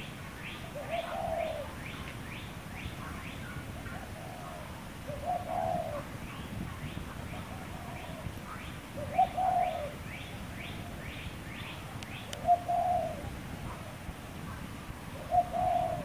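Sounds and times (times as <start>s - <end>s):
dove cooing: 0.4s - 14.2s, 15.1s - 16.0s.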